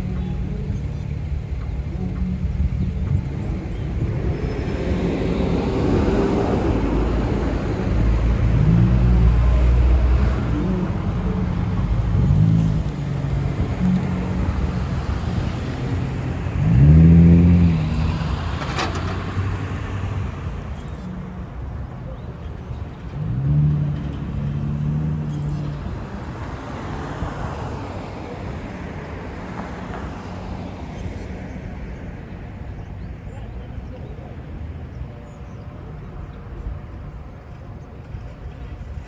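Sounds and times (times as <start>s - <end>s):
bus engine accelerating: 0.0s - 39.0s
street traffic rumble: 0.0s - 39.0s.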